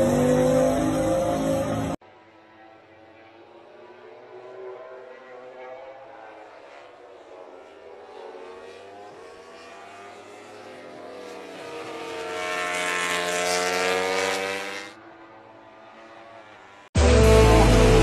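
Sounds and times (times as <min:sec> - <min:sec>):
race motorcycle engine: 0:00.0 - 0:18.0.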